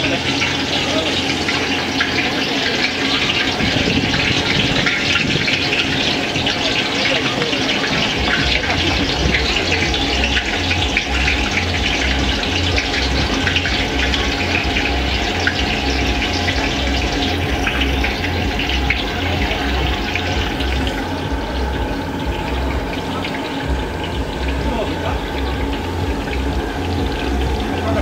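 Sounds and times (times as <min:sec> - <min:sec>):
low throb: 0:00.0 - 0:28.0
oil bubbling and sizzling: 0:00.0 - 0:28.0.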